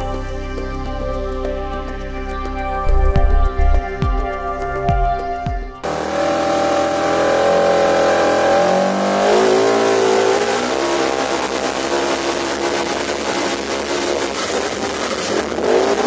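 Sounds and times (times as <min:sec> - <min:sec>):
noisy rush: 0:02.8 - 0:16.0.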